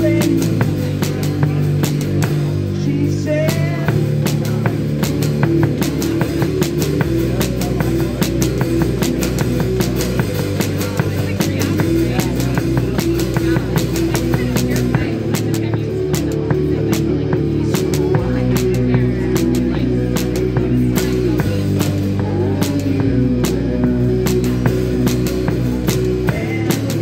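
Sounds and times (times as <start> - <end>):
drum kit: 0.0 - 27.0
held bass notes: 0.0 - 27.0.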